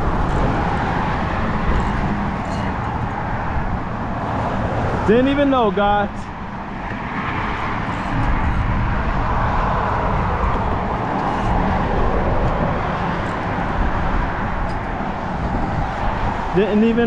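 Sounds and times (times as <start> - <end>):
road traffic: 0.0 - 17.0
wind rumbling on microphone: 0.0 - 17.0.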